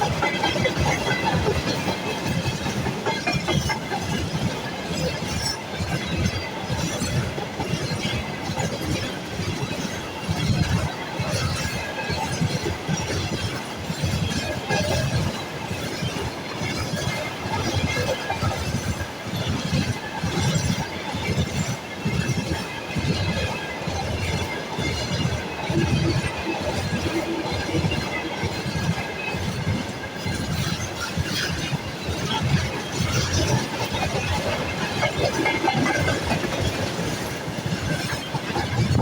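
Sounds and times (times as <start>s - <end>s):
train rumble: 0.0s - 39.0s.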